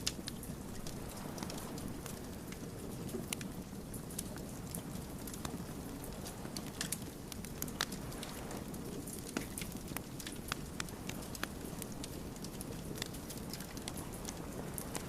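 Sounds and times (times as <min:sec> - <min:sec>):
burning logs popping and snapping: 0:00.0 - 0:15.0
rush of flames: 0:00.0 - 0:15.0.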